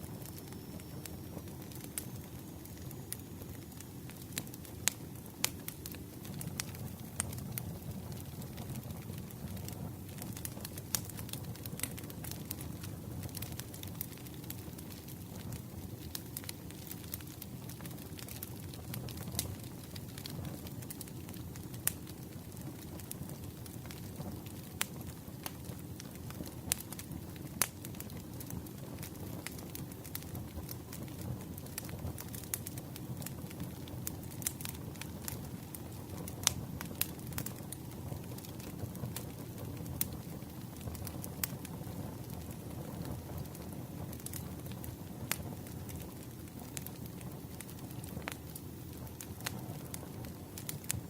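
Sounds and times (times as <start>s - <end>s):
fire crackling: 0.0s - 51.0s
low rumble of flames: 0.0s - 51.0s
low rush of burning wood: 0.0s - 51.0s
campfire pops: 0.1s - 51.0s.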